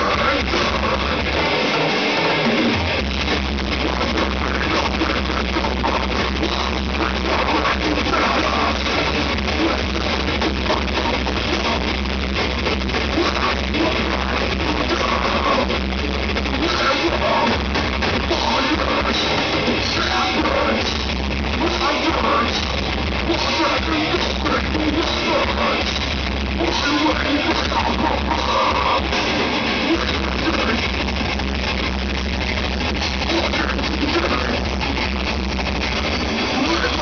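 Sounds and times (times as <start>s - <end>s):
distorted electric guitars: 0.0s - 37.0s
drum kit: 0.0s - 37.0s
metal vocals: 0.0s - 37.0s.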